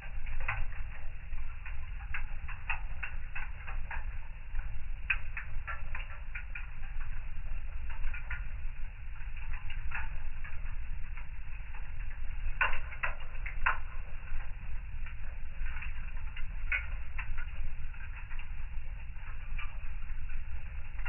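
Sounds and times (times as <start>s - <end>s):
low rumble of burning fire: 0.0s - 21.0s
wood fire crackling: 0.0s - 21.0s.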